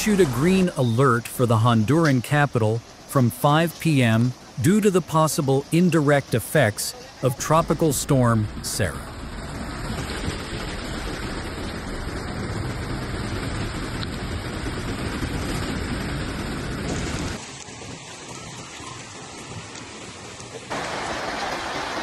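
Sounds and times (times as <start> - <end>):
floodwater rushing: 0.0 - 22.0
heavy rain hissing: 0.0 - 22.0.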